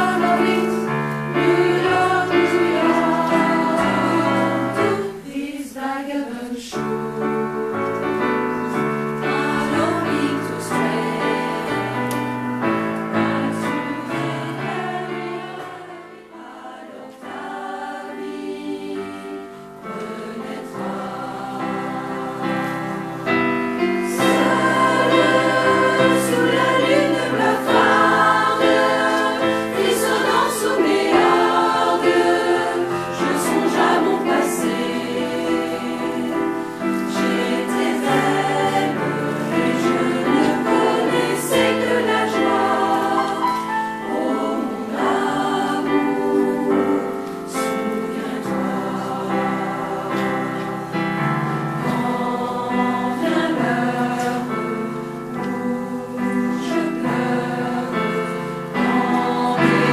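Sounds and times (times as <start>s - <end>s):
mixed choir singing: 0.0s - 59.9s
piano accompaniment: 0.0s - 59.9s.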